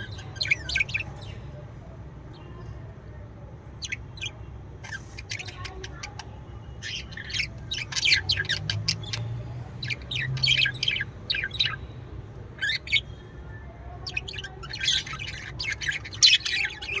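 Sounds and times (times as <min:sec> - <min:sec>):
cage birds chirping: 0:00.0 - 0:17.0.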